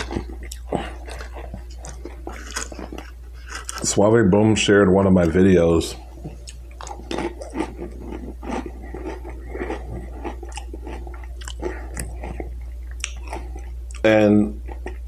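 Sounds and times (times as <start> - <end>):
person chewing crunchy chips: 0.0 - 4.0, 6.3 - 15.0
steady low hum: 0.0 - 15.0.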